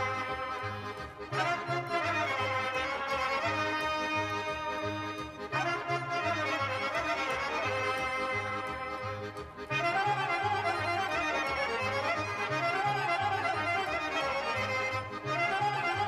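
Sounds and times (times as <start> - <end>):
instrumental folk music: 0.0 - 16.0.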